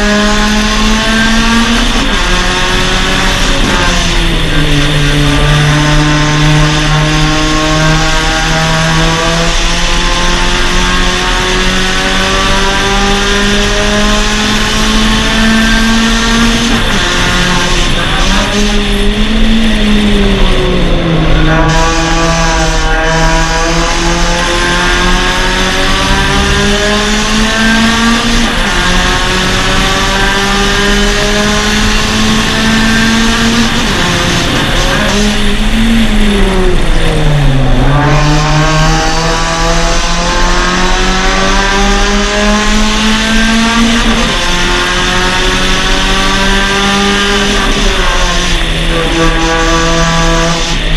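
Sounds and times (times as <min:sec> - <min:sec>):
car engine revving through gears: 0:00.0 - 0:50.9.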